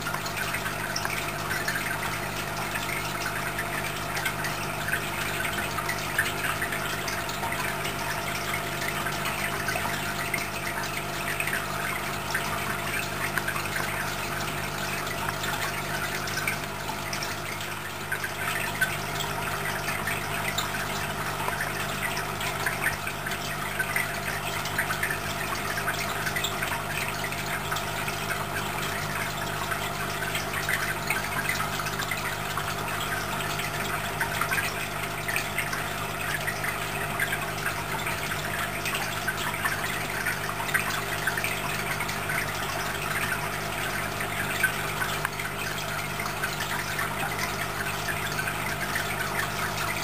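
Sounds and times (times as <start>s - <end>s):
aquarium pump humming: 0.0s - 50.0s
water bubbling and trickling: 0.0s - 50.0s.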